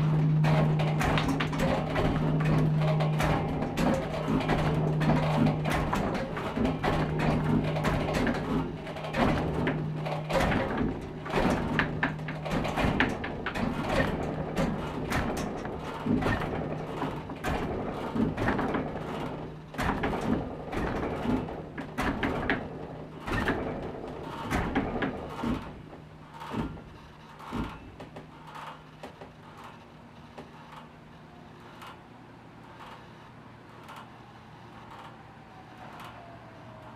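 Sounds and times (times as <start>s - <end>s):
steady low hum: 0.0s - 35.7s.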